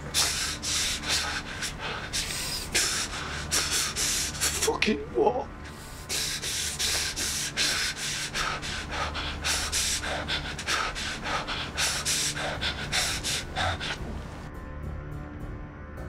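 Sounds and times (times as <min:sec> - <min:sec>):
man breathing hard: 0:00.0 - 0:04.7, 0:05.6 - 0:14.5.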